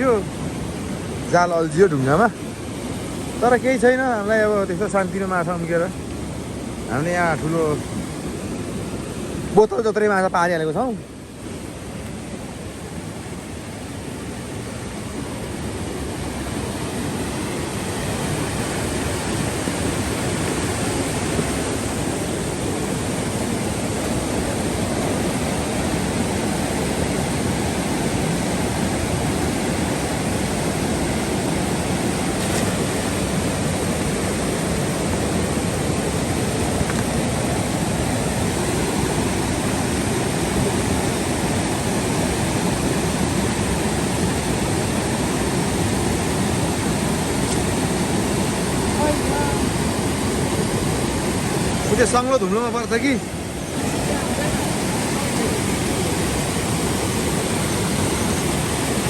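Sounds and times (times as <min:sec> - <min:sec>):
flooded river rushing: 0:00.0 - 0:59.0.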